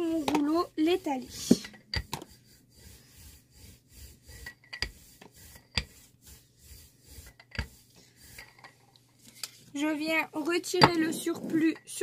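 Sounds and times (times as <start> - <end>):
rubber brayer rolling paint: 0.0 - 12.0.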